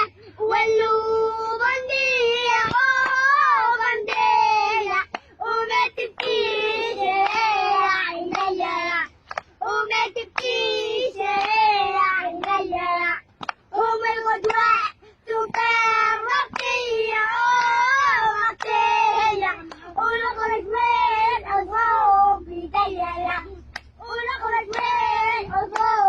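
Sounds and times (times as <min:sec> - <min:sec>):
child singing unaccompanied: 0:00.0 - 0:26.0.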